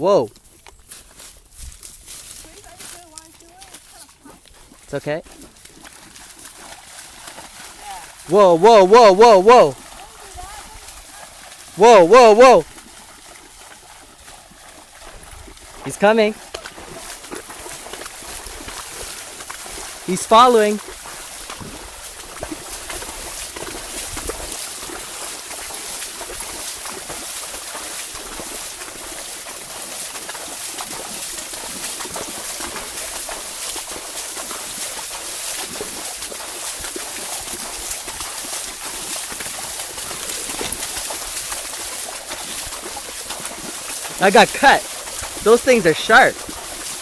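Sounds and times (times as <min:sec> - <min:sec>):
water sloshing and splashing: 0:01.1 - 0:47.0.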